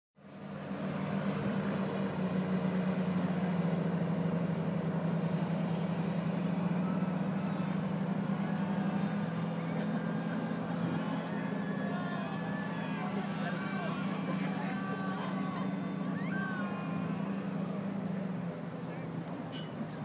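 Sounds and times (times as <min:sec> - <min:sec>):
low engine hum: 0:00.2 - 0:20.0.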